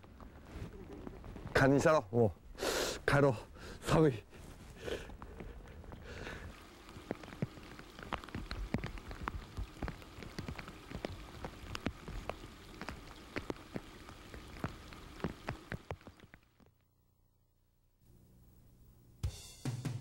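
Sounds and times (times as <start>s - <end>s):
rain drops hitting close: 0.0s - 16.7s.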